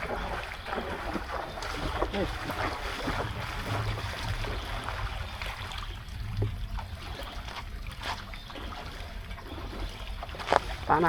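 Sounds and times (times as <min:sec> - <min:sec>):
low rumble: 0:00.0 - 0:10.8
floodwater flowing: 0:00.0 - 0:11.0
small splashes: 0:00.0 - 0:11.0.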